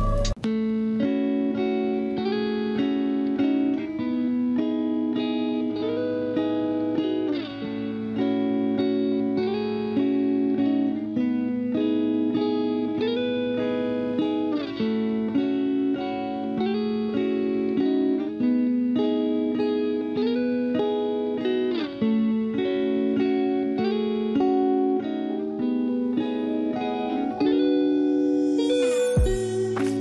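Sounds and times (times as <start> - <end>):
plucked string melody: 0.0 - 30.0.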